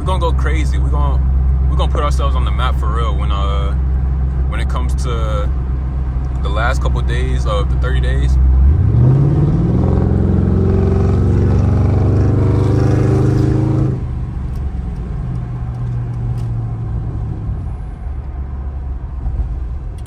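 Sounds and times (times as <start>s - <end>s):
car engine under heavy throttle: 0.0s - 20.0s
road noise: 0.0s - 20.0s.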